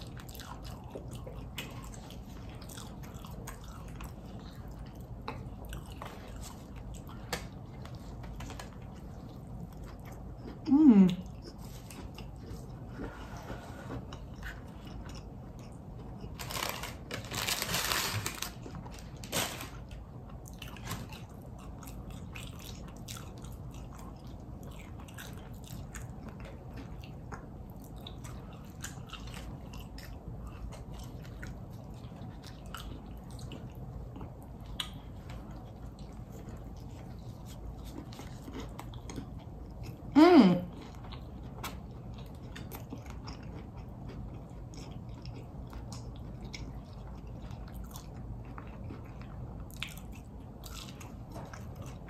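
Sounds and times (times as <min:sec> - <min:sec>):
chewing and crunching food: 0:00.0 - 0:52.0.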